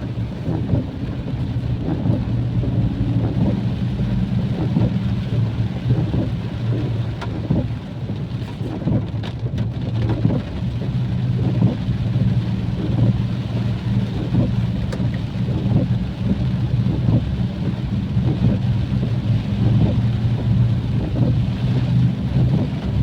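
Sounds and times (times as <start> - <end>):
heavy rain pouring: 0.0 - 23.0
steady low rumble: 0.0 - 23.0.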